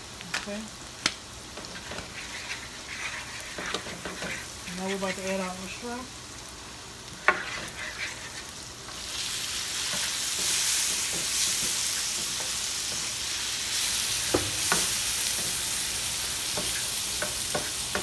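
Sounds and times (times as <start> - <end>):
shrimp sizzling in a pan: 0.0 - 18.0
wooden spoon scraping a pan: 1.6 - 5.9, 7.2 - 9.1, 9.7 - 18.0.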